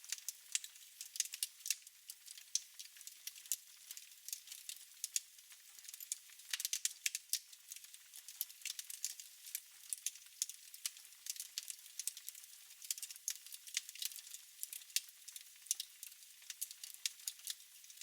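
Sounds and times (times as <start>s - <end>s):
fire crackling in a fireplace: 0.0s - 18.0s.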